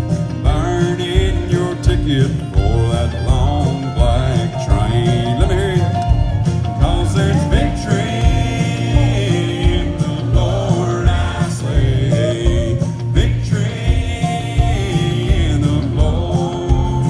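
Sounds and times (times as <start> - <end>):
band beat: 0.0 - 17.0
man singing: 0.0 - 17.0
strummed acoustic guitar: 0.0 - 17.0.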